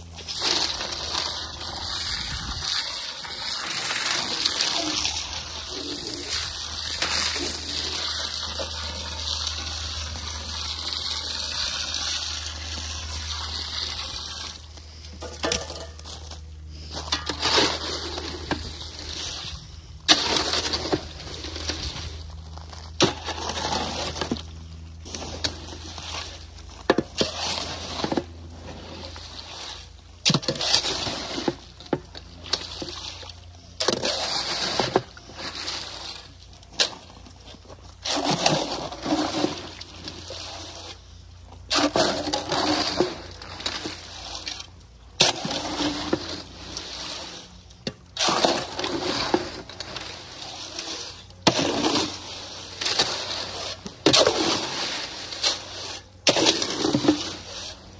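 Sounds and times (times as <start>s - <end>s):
shovel scraping wet concrete: 0.0s - 57.9s.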